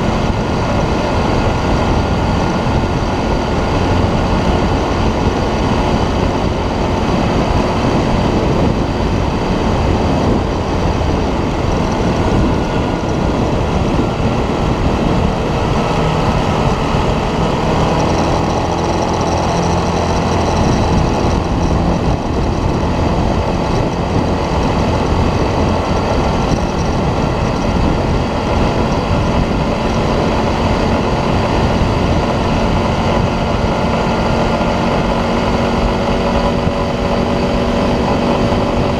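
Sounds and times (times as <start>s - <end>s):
quad engine running: 0.0s - 38.9s.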